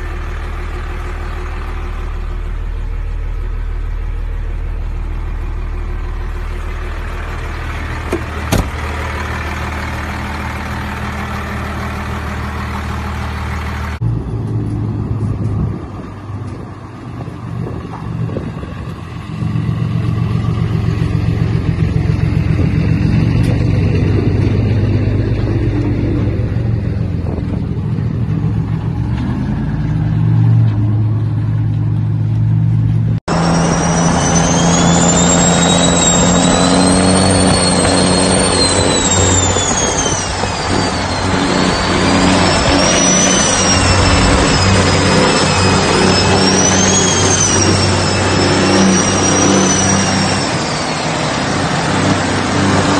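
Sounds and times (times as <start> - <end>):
engine with high whistle: 0.0 - 28.8, 33.2 - 52.9
diesel truck engines rumbling: 0.0 - 52.9.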